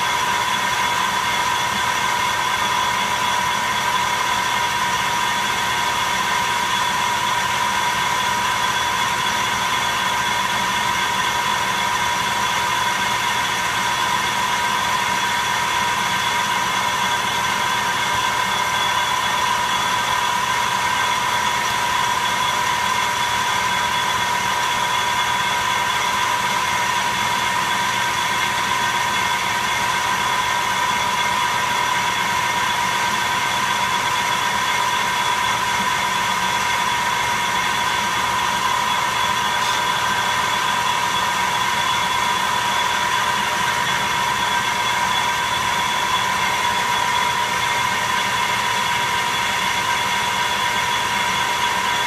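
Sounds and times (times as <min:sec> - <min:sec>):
metal lathe whine: 0:00.0 - 0:52.0.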